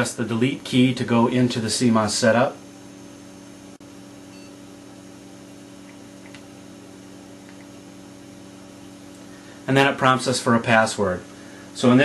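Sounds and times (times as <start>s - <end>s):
desktop computer humming: 0.0s - 12.0s.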